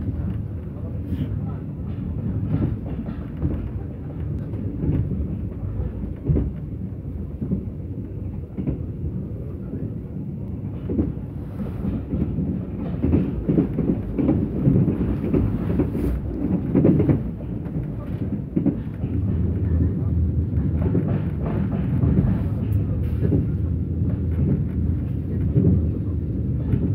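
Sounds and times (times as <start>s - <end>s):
train low rumble: 0.0s - 26.9s.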